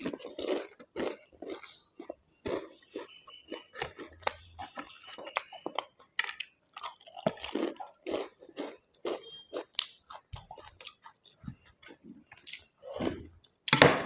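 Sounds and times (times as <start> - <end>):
food crunching: 0.0 - 13.7
person chewing food: 0.0 - 13.7.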